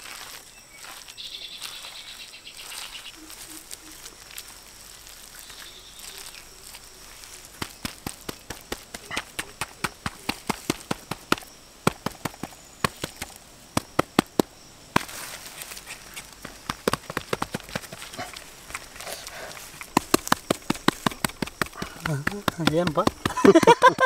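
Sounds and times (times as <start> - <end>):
faint hiss: 0.0 - 23.2.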